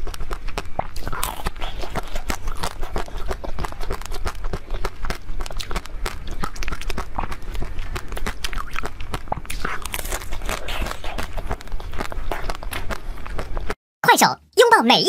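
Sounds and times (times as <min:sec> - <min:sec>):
crunching and chewing: 0:00.0 - 0:13.8.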